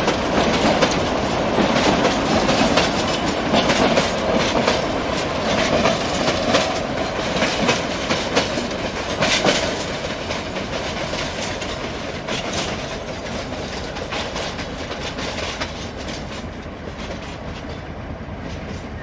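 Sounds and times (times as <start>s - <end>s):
diesel locomotives rolling past: 0.0s - 19.0s
wheels clicking over rail joints: 0.0s - 19.0s.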